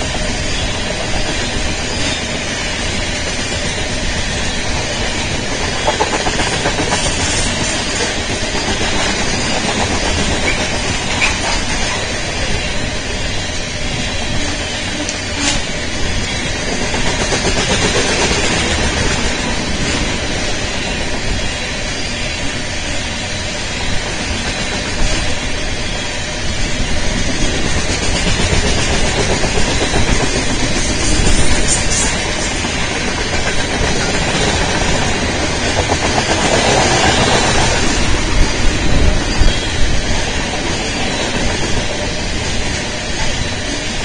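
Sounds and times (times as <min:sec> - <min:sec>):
freight train wheels on rails: 0:00.0 - 0:44.0.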